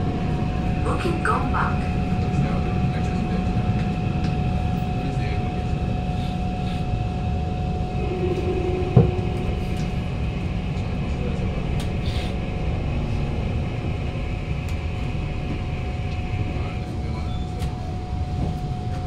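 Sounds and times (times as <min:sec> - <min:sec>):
steady electric tone: 0:00.0 - 0:18.9
train rumble: 0:00.0 - 0:19.0.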